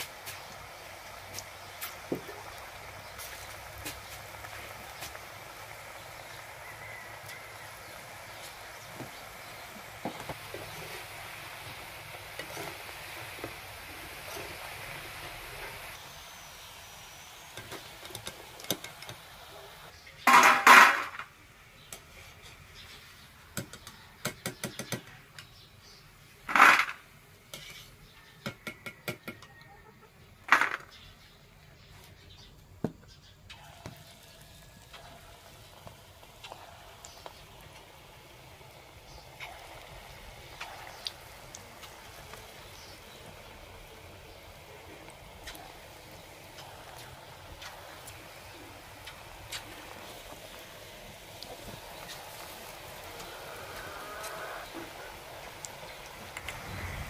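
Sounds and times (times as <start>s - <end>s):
hot oil sizzling: 0.0s - 29.5s, 30.2s - 31.9s, 33.1s - 57.0s.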